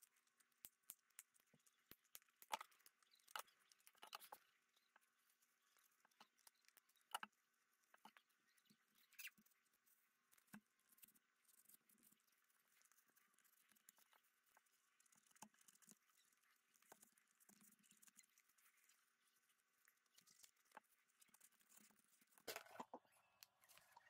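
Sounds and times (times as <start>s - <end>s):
faint taps clicks and scrapes: 0.0s - 24.0s.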